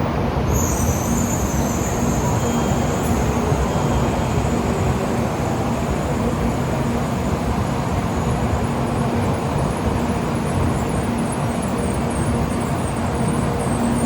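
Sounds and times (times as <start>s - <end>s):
train rumble: 0.0s - 14.0s
faint high whine: 0.4s - 14.0s.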